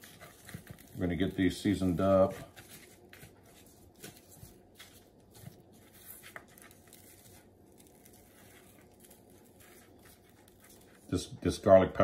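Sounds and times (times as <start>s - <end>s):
hands rubbing chicken on plastic tray: 0.0s - 11.5s.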